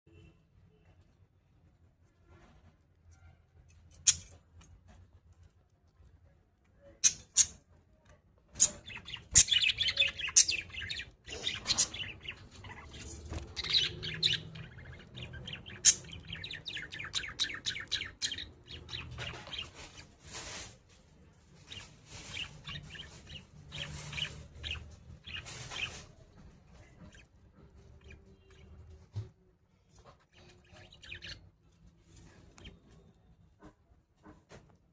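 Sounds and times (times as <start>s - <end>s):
cage birds chirping: 0.1s - 34.9s.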